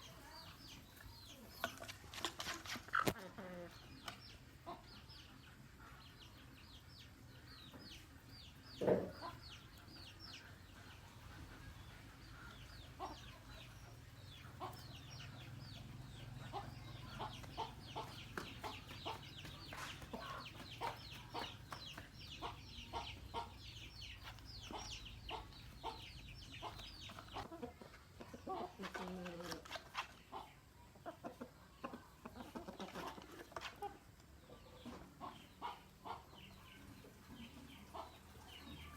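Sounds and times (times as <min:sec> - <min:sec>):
chickens clucking: 0:00.0 - 0:38.9
chicks peeping: 0:03.0 - 0:38.9.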